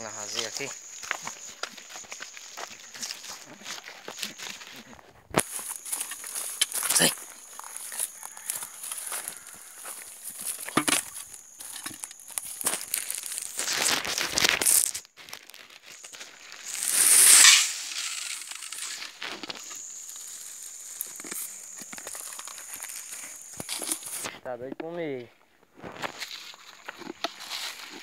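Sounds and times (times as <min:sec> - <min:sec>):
dry leaves crackling underfoot: 0:00.0 - 0:24.3.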